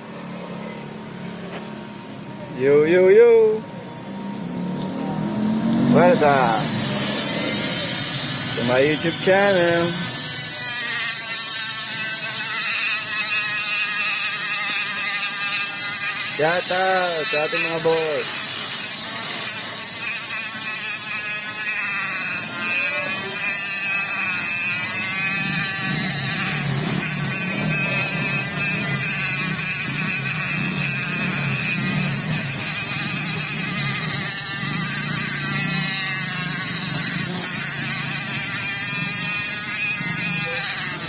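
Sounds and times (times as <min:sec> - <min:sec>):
small electric motor whining: 0:03.7 - 0:41.0.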